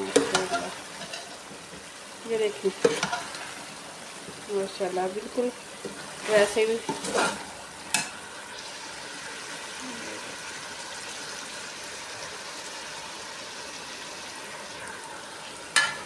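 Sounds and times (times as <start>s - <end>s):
curry sizzling in a pot: 0.0s - 16.0s.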